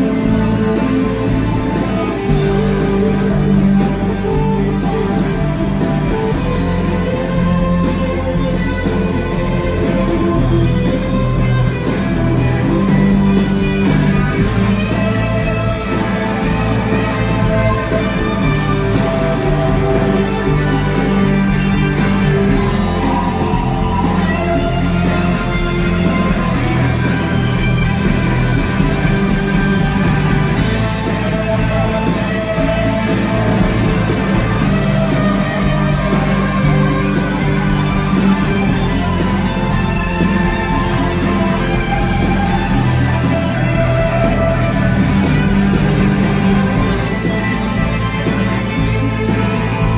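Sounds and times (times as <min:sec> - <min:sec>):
bass guitar: 0:00.0 - 0:49.9
drums: 0:00.0 - 0:49.9
electric guitar: 0:00.0 - 0:49.9.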